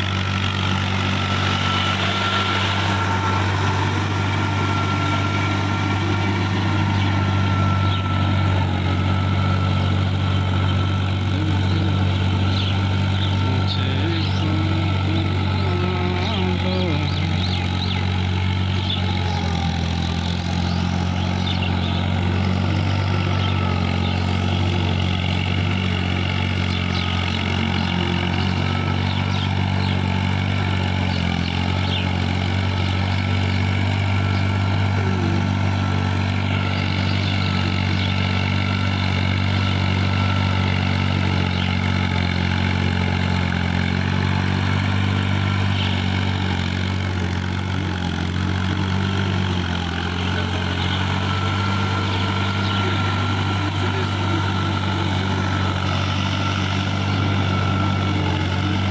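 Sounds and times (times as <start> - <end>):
tractor engine droning: 0.0 - 58.9.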